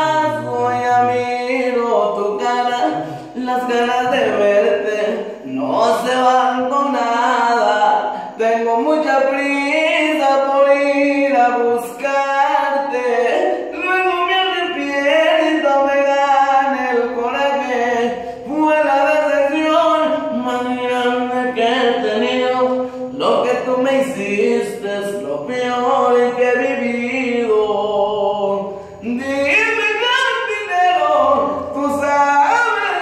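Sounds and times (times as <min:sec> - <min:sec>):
young man singing a cappella: 0:00.0 - 0:33.0.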